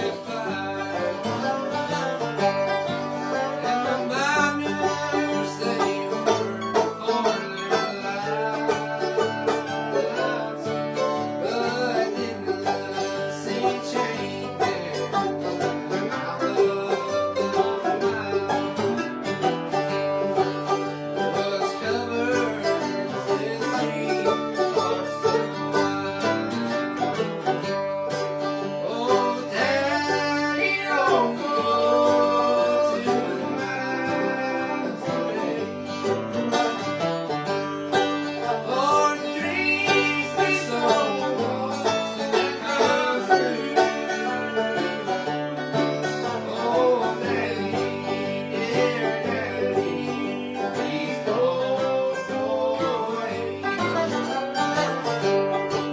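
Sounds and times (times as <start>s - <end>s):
acoustic guitar: 0.0s - 55.9s
banjo: 0.0s - 55.9s.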